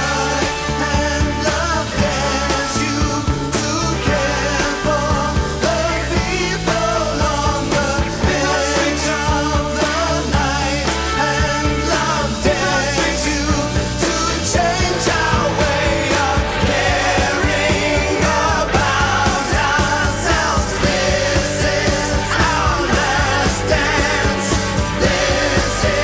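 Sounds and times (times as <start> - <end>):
rock song with singing: 0.0 - 26.0.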